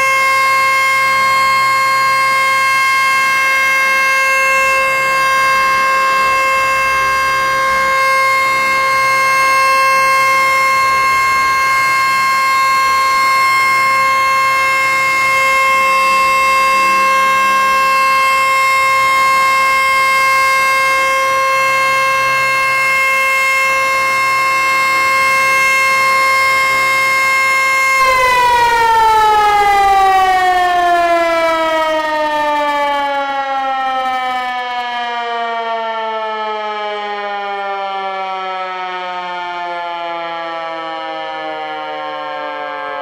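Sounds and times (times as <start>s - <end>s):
warning siren steady tone: 0.0s - 43.0s.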